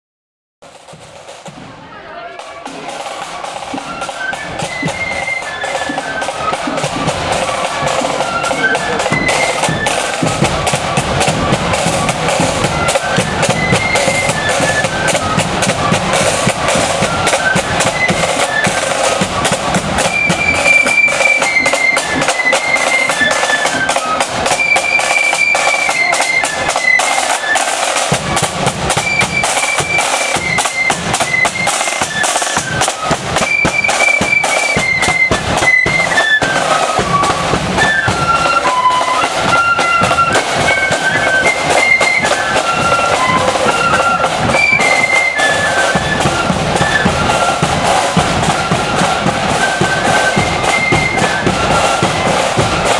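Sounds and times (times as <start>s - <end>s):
snare drums rattling: 0.6s - 52.9s
flutes playing march melody: 0.7s - 52.9s.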